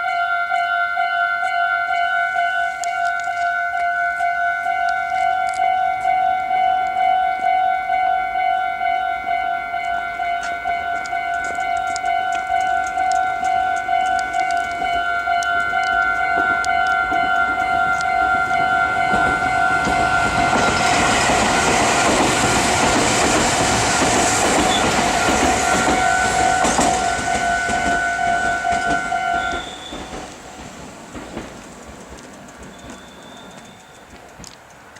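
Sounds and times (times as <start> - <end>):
level crossing warning bell: 0.0 - 30.6, 32.7 - 34.2
train wheels on rails: 0.0 - 34.9.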